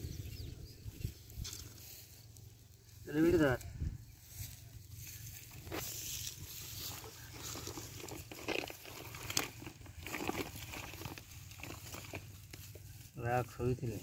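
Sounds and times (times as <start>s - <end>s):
rustling nylon net and dry grass: 0.2s - 14.0s.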